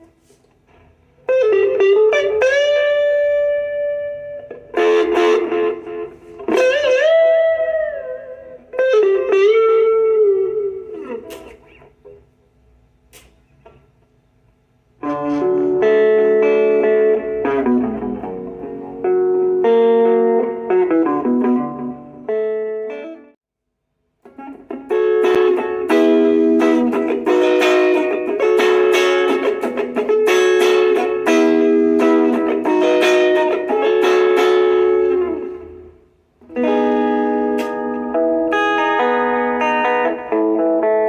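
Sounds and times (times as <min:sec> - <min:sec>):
electric guitar chords and notes: 0:00.0 - 0:12.4, 0:14.9 - 0:23.4, 0:24.2 - 0:41.0.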